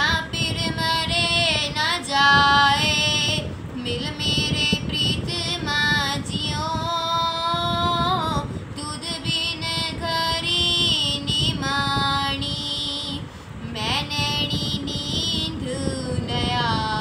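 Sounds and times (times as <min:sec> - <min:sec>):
girl singing a hymn: 0:00.0 - 0:17.0.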